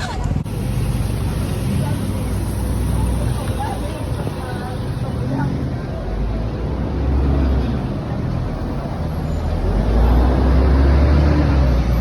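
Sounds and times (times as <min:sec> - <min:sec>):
street noise: 0:00.0 - 0:12.0
traffic engine rumble: 0:00.0 - 0:12.0.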